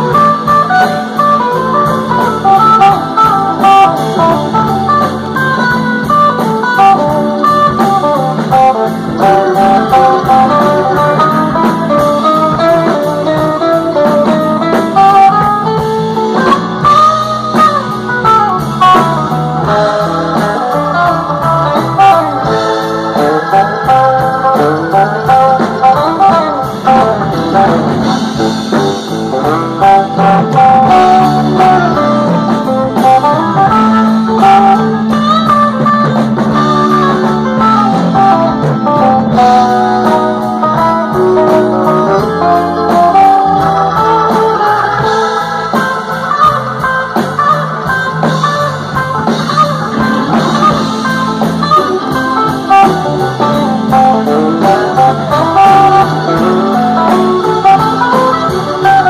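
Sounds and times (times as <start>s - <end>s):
bass guitar: 0.0s - 59.0s
drums: 0.0s - 59.0s
electric guitar bending notes: 0.0s - 59.0s
keyboards: 0.0s - 59.0s.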